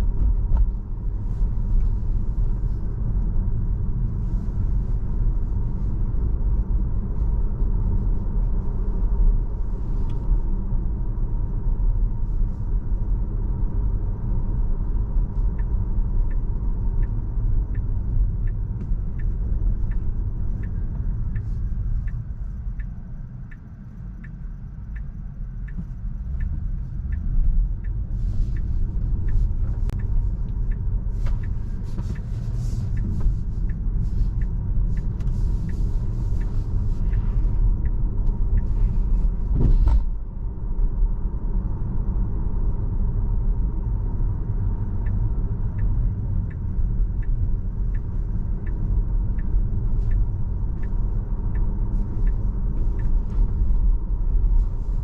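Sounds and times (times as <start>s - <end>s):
road and tyre rumble: 0.0s - 55.0s.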